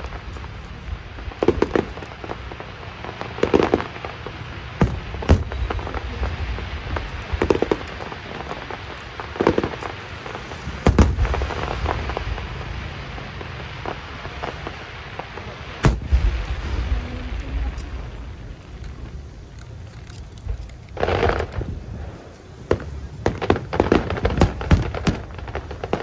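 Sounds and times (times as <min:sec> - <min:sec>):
fireworks bangs and booms: 0:00.0 - 0:19.8, 0:20.4 - 0:26.0
steady hiss: 0:00.0 - 0:26.0.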